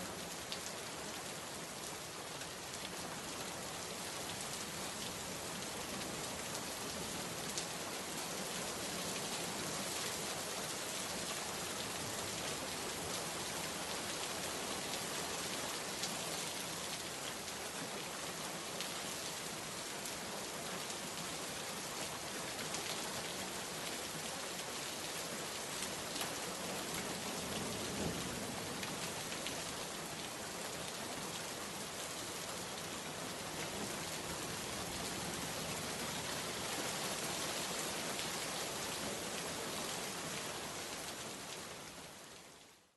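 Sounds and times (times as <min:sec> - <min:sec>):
steady rain with drop patter: 0:00.0 - 0:42.9.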